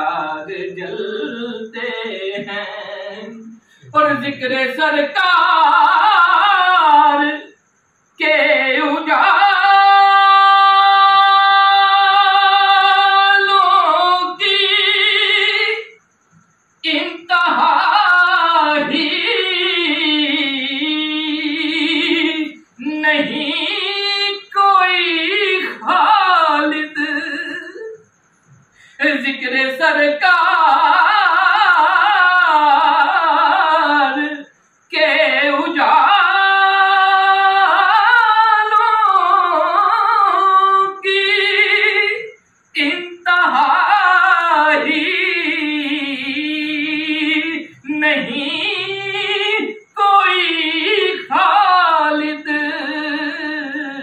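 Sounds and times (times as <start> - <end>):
man singing unaccompanied: 0.0 - 7.6, 8.2 - 16.0, 16.8 - 28.0, 29.0 - 54.0.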